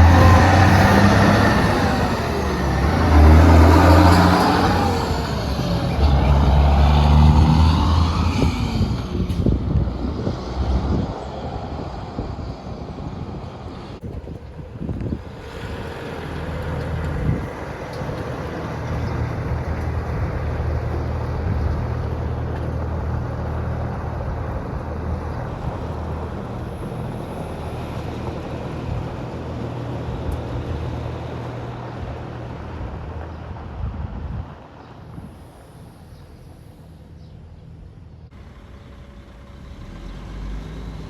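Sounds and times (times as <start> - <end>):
truck diesel engine running: 0.0 - 12.0, 14.0 - 41.0
road noise: 0.0 - 41.0.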